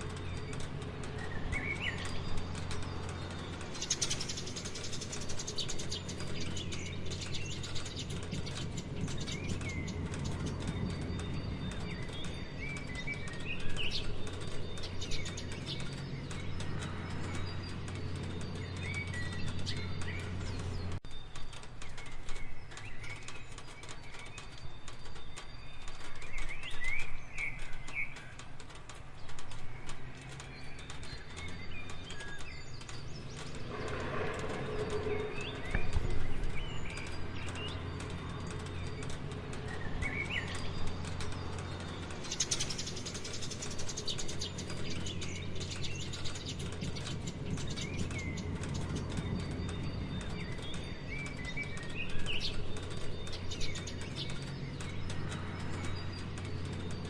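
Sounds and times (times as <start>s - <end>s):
birds chirping: 0.0s - 57.0s
rain pattering: 0.0s - 57.0s.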